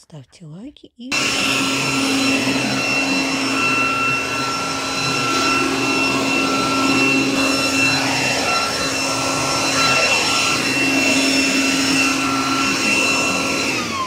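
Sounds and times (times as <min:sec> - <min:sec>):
garden vacuum roaring: 0:01.1 - 0:14.0
high steady whine: 0:01.4 - 0:13.2.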